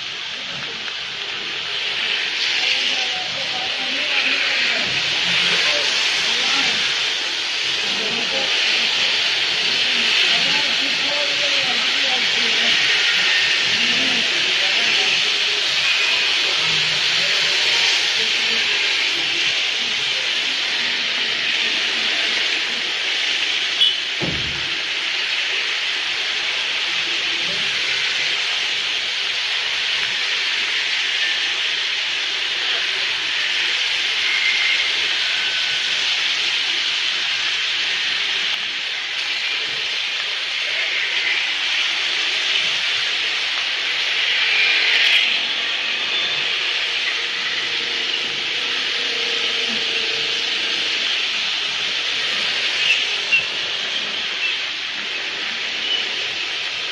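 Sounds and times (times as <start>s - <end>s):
rain on wet street: 0.0s - 56.9s.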